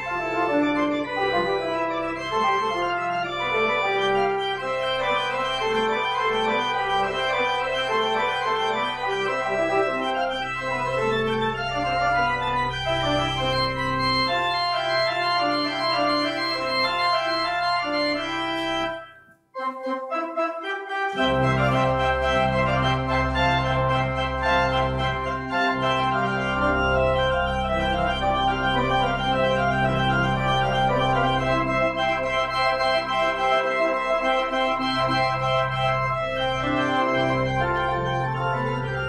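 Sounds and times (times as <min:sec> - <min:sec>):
church organ playing chords: 0:00.0 - 0:39.0.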